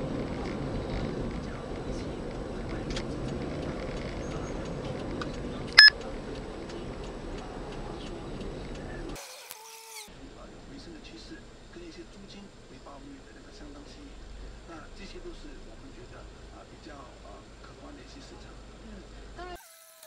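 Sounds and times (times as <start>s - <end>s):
car road and engine noise: 0.0s - 9.2s, 10.2s - 19.4s.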